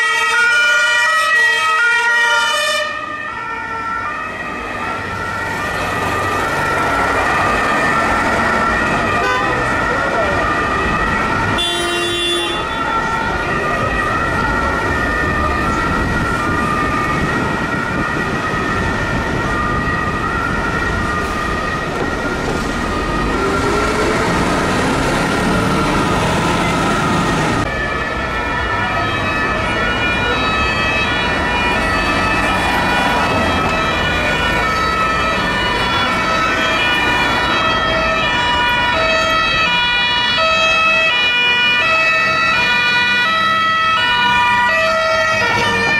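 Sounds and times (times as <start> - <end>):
truck engines and traffic: 0.0 - 45.9
two-tone sirens: 0.0 - 45.9.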